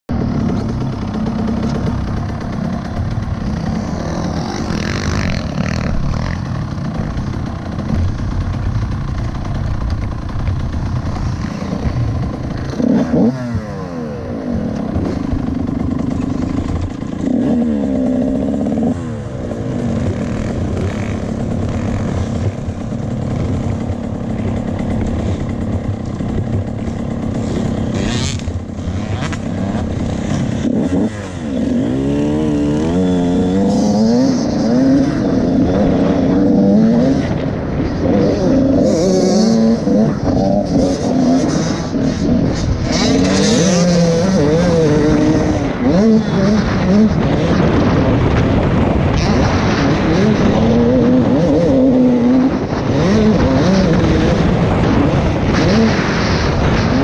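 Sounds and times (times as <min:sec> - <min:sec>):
motocross bike engines revving: 0:00.1 - 0:57.0.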